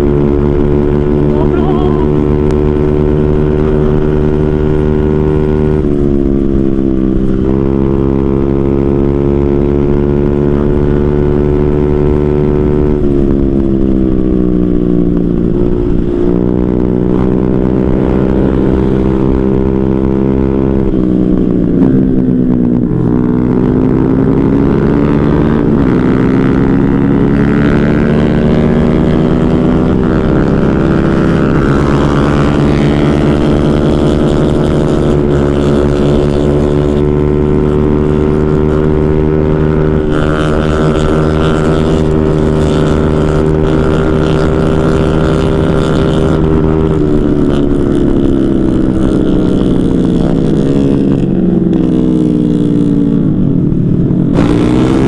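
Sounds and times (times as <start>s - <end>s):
motorcycle engine revving high: 0.0s - 55.0s
wind rumble on microphone: 0.0s - 55.0s.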